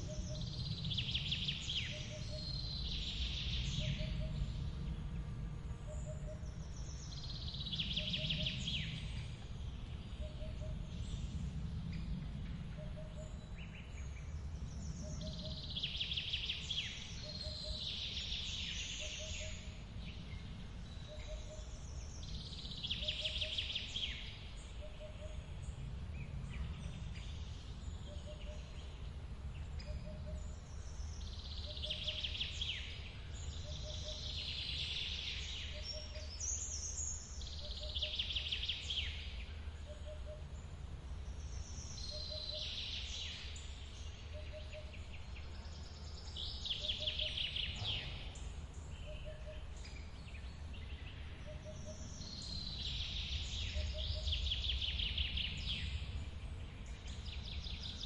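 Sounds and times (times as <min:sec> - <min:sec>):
forest birds singing: 0:00.0 - 0:58.0
low rumble of waterfall: 0:06.4 - 0:58.0.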